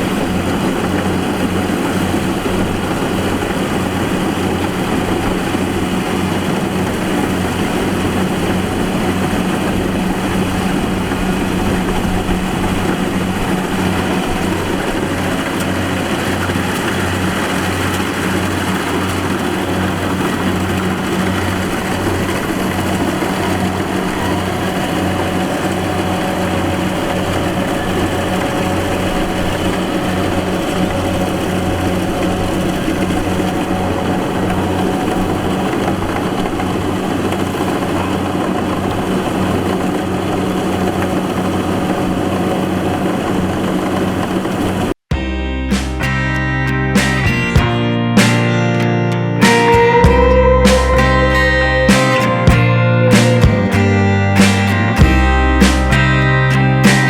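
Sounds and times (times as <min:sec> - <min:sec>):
harvesting machine engine running: 0:00.0 - 0:57.0.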